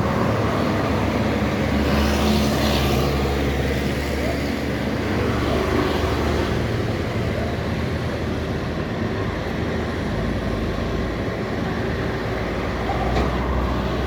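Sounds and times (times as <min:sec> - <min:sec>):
truck engines: 0:00.0 - 0:14.0.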